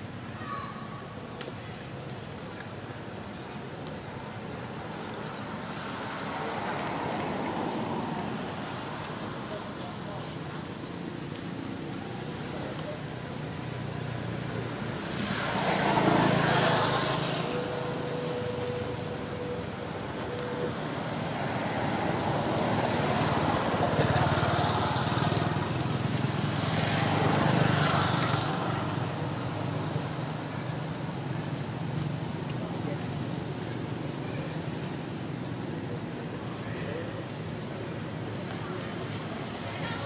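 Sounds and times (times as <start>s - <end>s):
vehicles passing: 0.0s - 40.0s.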